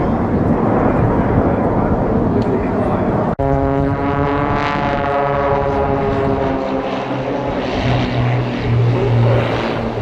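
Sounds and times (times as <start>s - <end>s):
aircraft engine droning overhead: 0.0s - 10.0s
low hum: 0.0s - 10.0s.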